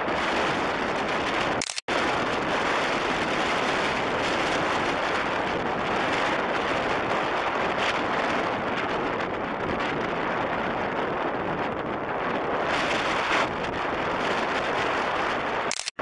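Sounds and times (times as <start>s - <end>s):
storm wind on microphone: 0.0s - 16.0s.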